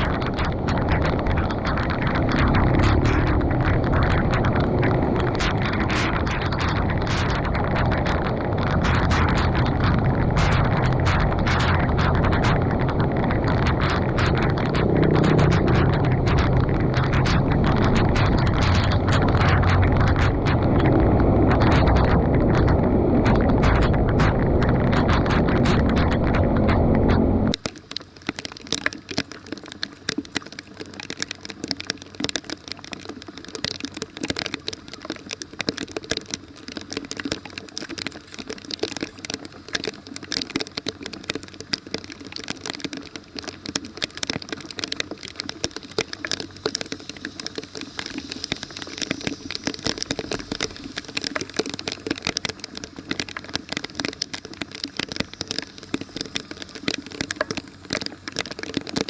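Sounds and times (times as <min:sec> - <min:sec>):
rain on street and drain grate: 0:00.0 - 0:59.0.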